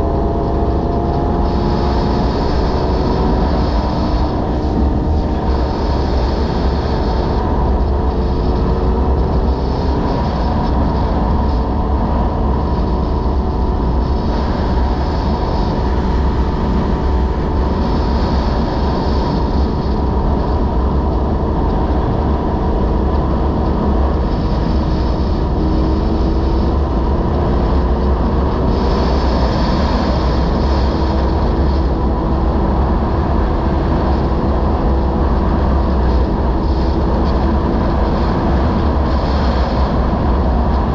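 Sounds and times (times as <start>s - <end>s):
motorcycle engine cruising: 0.0s - 40.9s
wind rush on microphone: 0.0s - 40.9s.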